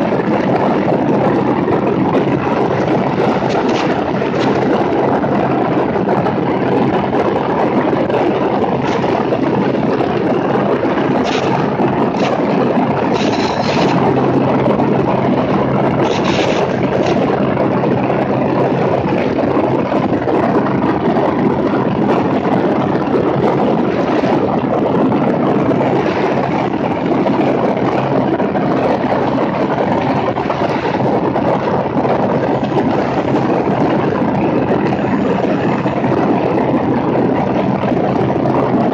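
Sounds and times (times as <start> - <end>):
airplane engine drone: 0.0 - 38.9
rush of airflow: 0.0 - 38.9.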